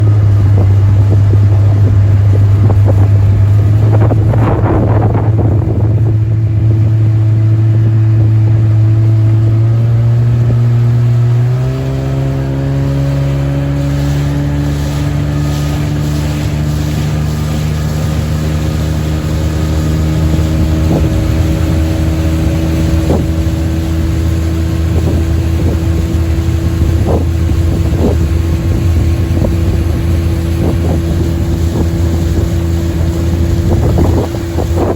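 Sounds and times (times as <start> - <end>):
motorboat engine running: 0.0 - 34.9.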